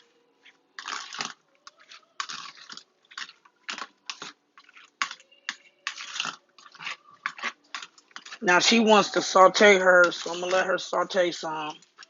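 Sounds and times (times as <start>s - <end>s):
food crunching and scraping: 0.0s - 12.0s.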